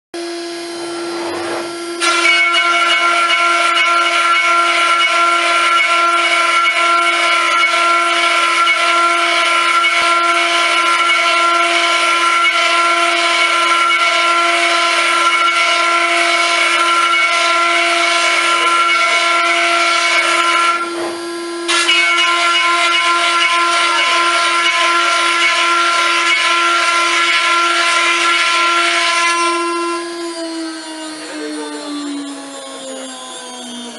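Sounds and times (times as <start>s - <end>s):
router bit cutting wood: 0.2s - 33.9s
router spindle high whine: 0.2s - 33.9s.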